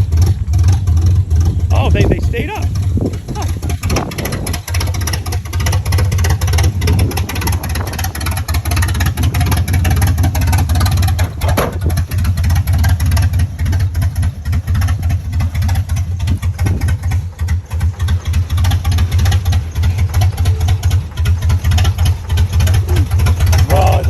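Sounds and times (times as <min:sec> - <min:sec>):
truck engine idling unevenly: 0:00.0 - 0:24.0.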